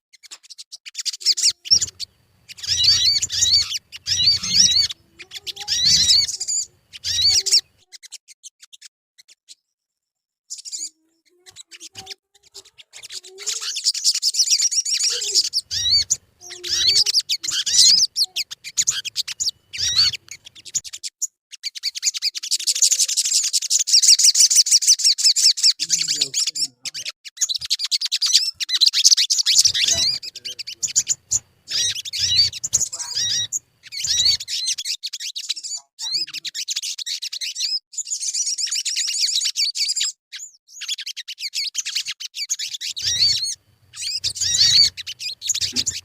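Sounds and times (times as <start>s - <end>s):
bird chattering trills: 0.2s - 9.4s, 10.5s - 46.0s.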